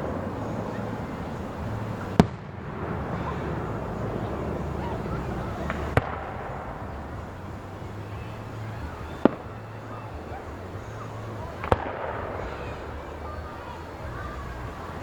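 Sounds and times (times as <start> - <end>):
fireworks bursting with sharp bangs: 0.0 - 15.0
steady low rumble: 0.0 - 15.0.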